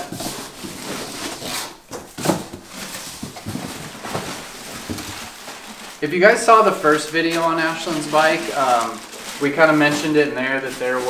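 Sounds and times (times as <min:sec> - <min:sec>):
packing paper rustling: 0:00.0 - 0:11.0
plastic bag crinkling: 0:00.0 - 0:11.0.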